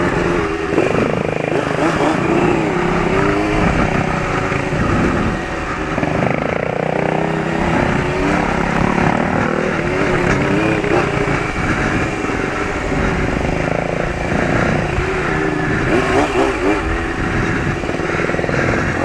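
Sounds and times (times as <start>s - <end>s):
motorcycle engine revving: 0.0s - 19.0s
riding noise: 0.0s - 19.0s.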